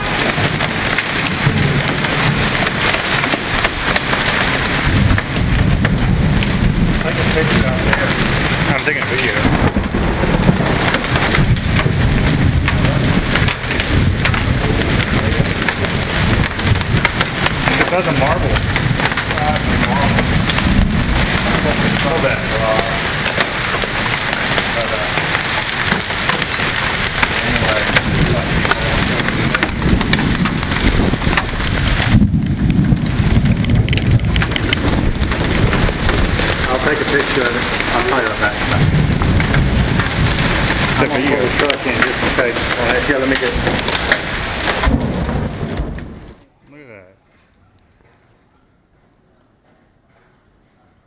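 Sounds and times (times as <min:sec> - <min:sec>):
heavy rain hiss: 0:00.0 - 0:46.3
hailstones ticking: 0:00.0 - 0:47.0
heavy low rumble: 0:00.0 - 0:50.9.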